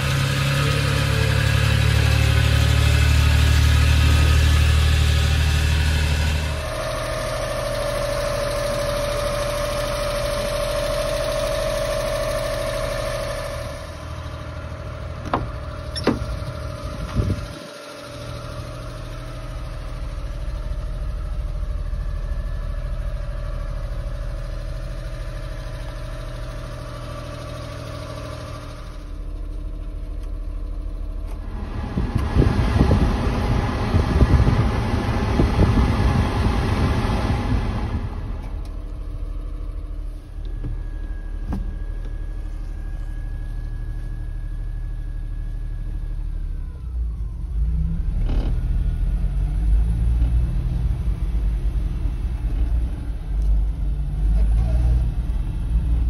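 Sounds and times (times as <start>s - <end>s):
truck engine idling: 0.0s - 47.6s.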